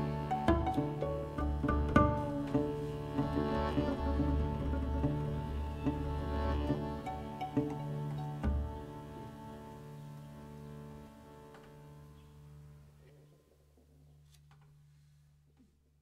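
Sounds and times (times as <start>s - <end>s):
violin: 0.0s - 13.1s
accordion: 0.0s - 13.3s
double bass: 0.0s - 13.3s.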